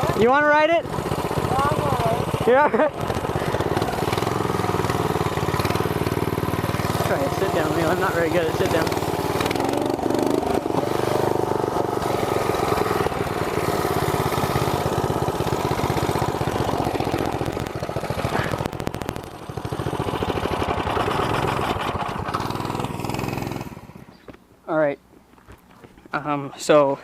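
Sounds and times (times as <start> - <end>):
small engine running: 0.0 - 24.4.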